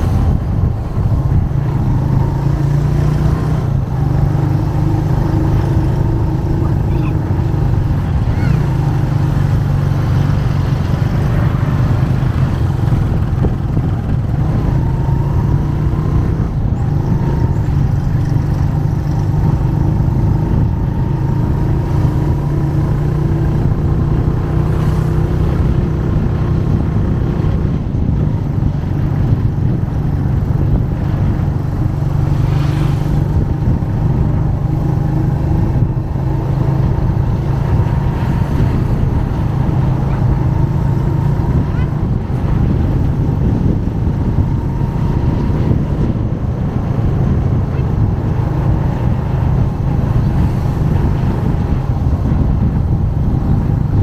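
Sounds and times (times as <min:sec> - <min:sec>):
motorcycle engine humming: 0:00.0 - 0:54.0.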